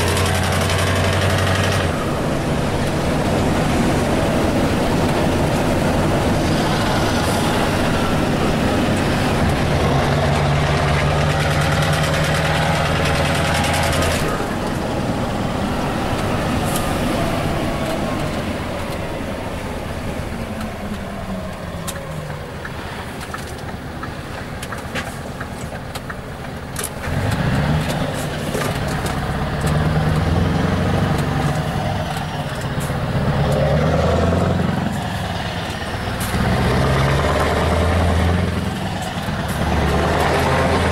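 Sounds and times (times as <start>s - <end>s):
truck engine revving: 0.0s - 40.9s.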